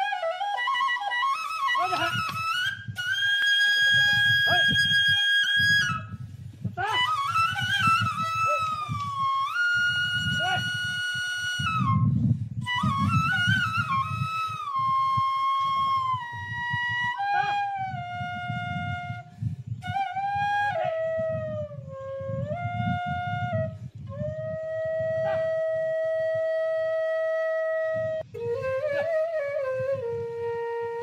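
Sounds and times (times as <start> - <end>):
flute playing slow melody: 0.0 - 6.2, 6.8 - 31.0.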